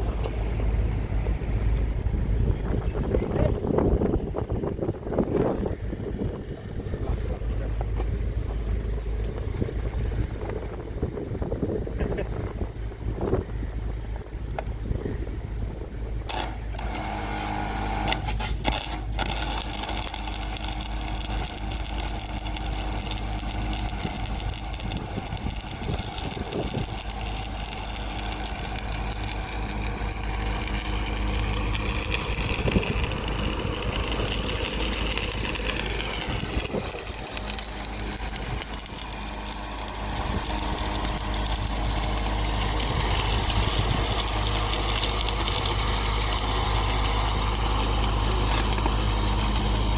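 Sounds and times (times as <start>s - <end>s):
diesel engine of piling machine: 0.0s - 49.9s.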